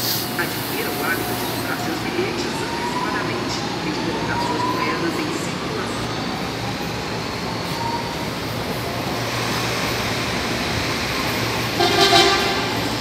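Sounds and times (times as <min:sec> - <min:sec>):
electric train rumble and hiss: 0:00.0 - 0:13.0.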